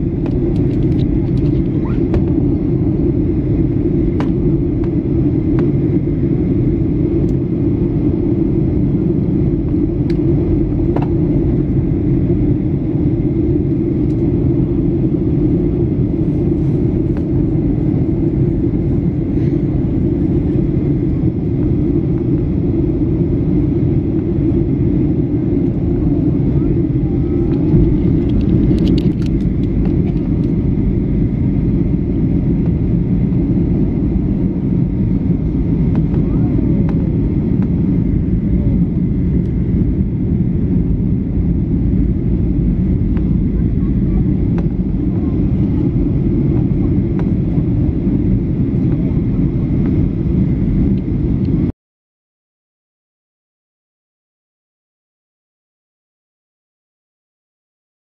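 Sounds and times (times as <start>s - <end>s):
airliner cabin rumble: 0.0s - 51.7s.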